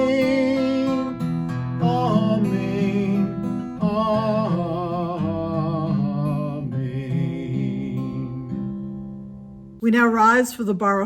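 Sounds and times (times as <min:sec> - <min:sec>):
strummed acoustic guitar chords: 0:00.0 - 0:09.8.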